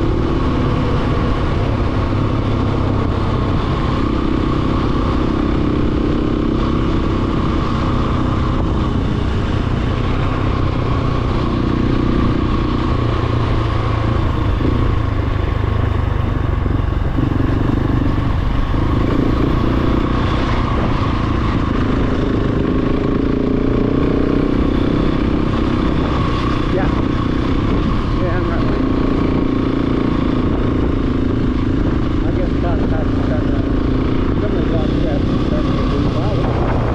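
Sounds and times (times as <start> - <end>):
dirt bike engine running: 0.0 - 36.9.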